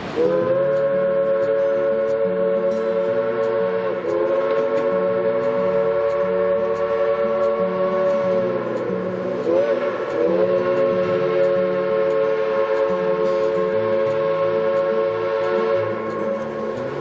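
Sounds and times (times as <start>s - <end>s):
steam locomotive chime whistle: 0.0s - 17.0s.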